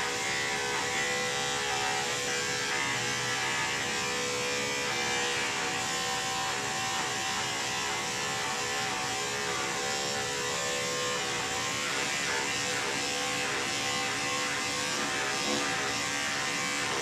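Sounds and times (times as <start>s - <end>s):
electric clipper buzzing: 0.0s - 17.0s.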